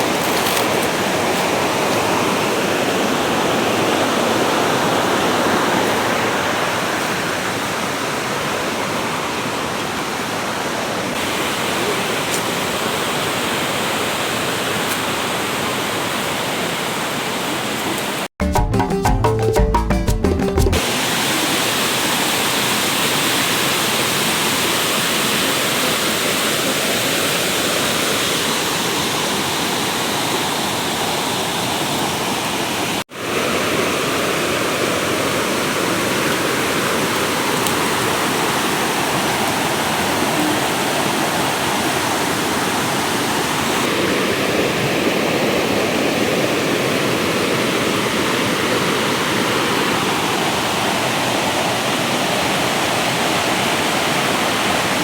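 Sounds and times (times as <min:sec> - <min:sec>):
water rushing from small waterfall: 0:00.0 - 0:18.3, 0:20.8 - 0:55.0.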